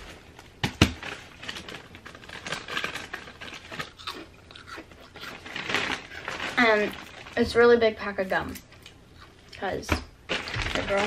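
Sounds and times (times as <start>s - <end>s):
packaging crinkling: 0.0s - 9.0s, 10.2s - 11.0s.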